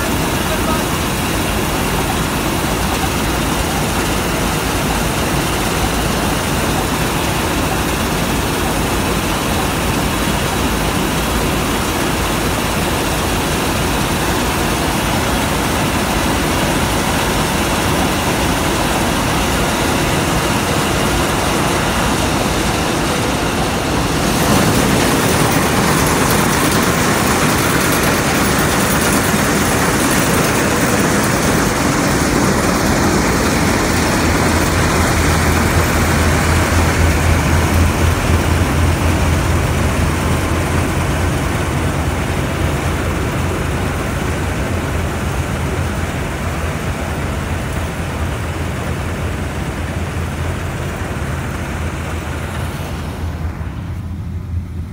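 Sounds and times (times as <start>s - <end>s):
combine harvester running: 0.0s - 54.9s.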